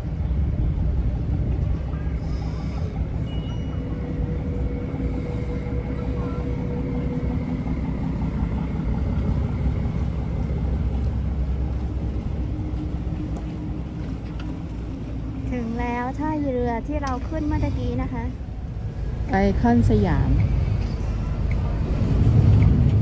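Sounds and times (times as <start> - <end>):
boat engine low rumble: 0.0 - 23.0.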